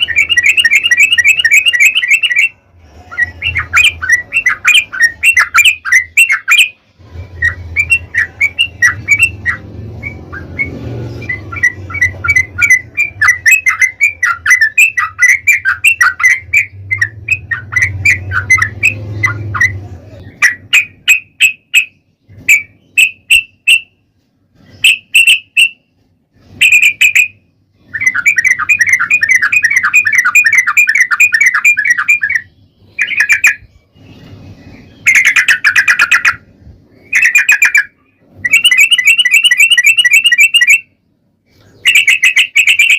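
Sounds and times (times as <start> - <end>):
bird chattering song: 0.0 - 24.0, 24.6 - 42.9.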